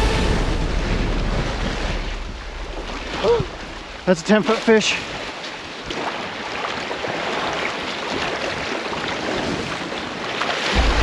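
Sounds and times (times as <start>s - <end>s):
small waves washing over sand: 1.0s - 11.0s.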